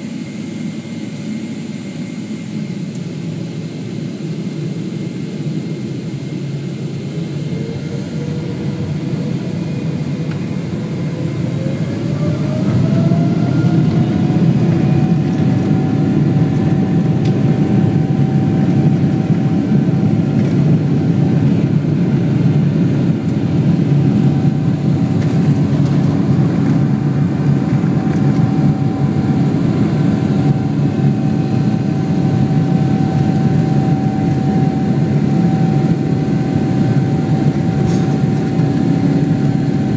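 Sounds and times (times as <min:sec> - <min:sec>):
jet engine whine: 0:00.0 - 0:39.9.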